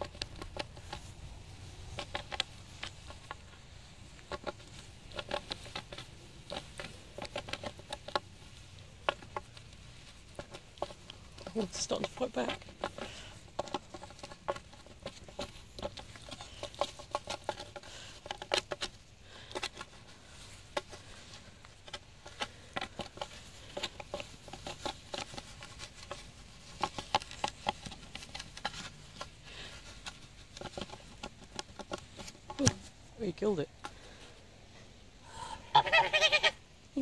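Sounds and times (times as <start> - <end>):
goose bill pecking wooden stick: 0.0 - 34.4.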